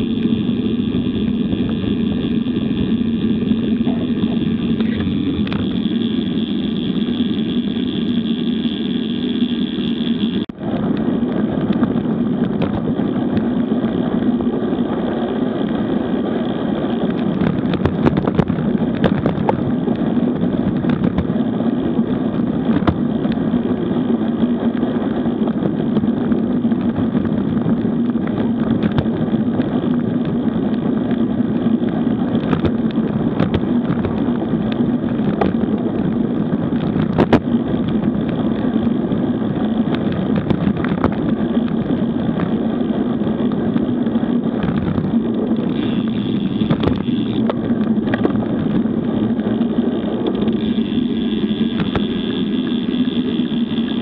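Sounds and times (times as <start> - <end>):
road rumble: 0.0 - 54.0
wind noise: 0.0 - 54.0.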